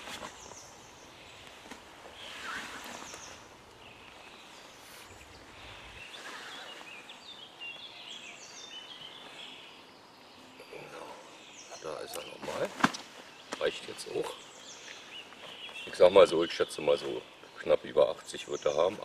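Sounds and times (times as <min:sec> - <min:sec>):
faint outdoor hiss: 0:00.0 - 0:19.0
songbirds chirping and warbling: 0:00.0 - 0:19.0.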